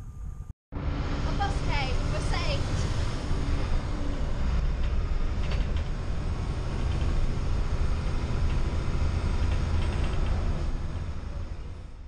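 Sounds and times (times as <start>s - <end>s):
bus engine and road rumble: 0.1s - 12.0s.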